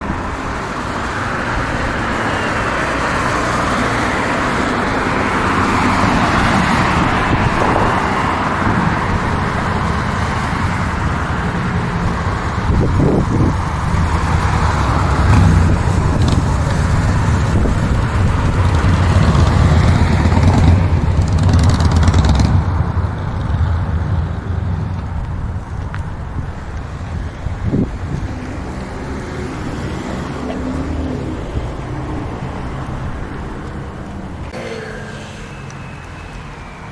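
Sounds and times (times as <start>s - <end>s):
vehicles passing: 0.0s - 36.9s.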